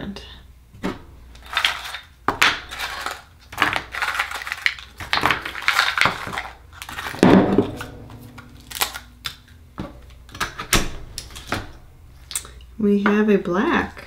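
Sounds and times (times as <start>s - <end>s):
oyster shells clattering and crunching: 1.3s - 12.6s.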